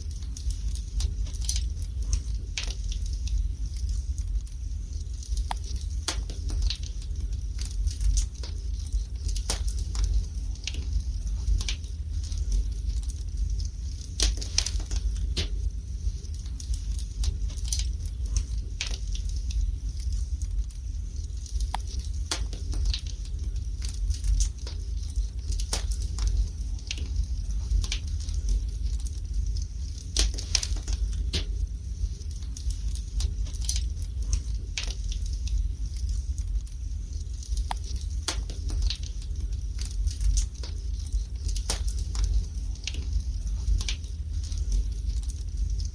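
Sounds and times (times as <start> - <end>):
logs crackling and popping: 0.0 - 45.9
low rumble of flames: 0.0 - 45.9.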